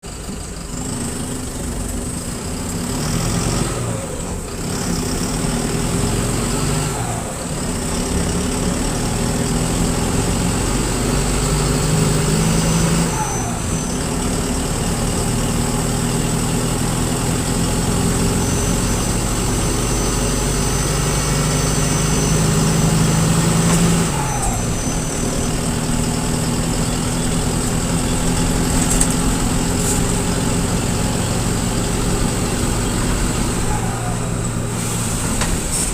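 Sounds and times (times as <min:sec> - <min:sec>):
diesel bus engine pulling under load: 0:00.0 - 0:35.9.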